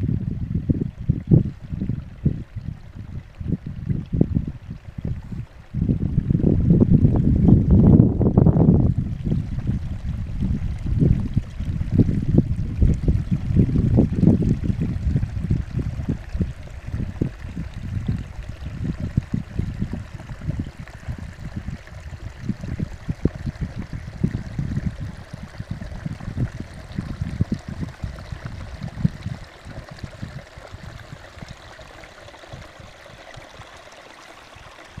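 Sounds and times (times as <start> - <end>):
wind buffeting microphone: 0.0 - 33.8, 34.5 - 35.0.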